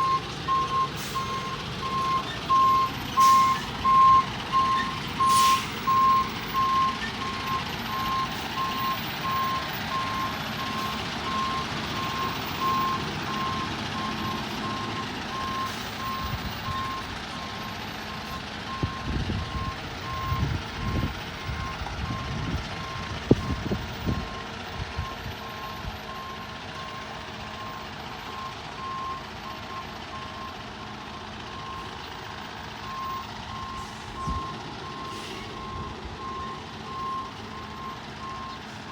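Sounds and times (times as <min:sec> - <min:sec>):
reversing alarm beeping: 0:00.0 - 0:31.9, 0:32.8 - 0:38.7
truck engine idling: 0:00.0 - 0:38.9.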